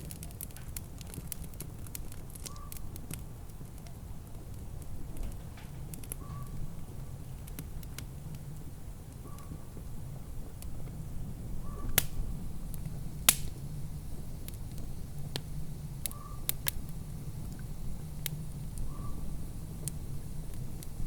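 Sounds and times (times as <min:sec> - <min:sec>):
steady low rumble: 0:00.0 - 0:21.0
wood fire crackling: 0:00.0 - 0:21.0.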